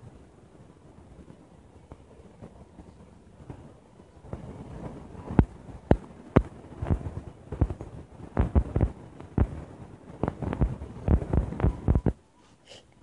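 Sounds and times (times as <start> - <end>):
fireworks popping and thumping: 1.2 - 12.2.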